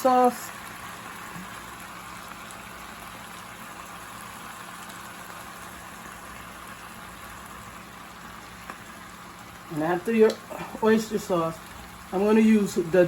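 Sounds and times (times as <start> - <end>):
stir-fry sizzling in a pan: 0.0 - 13.0.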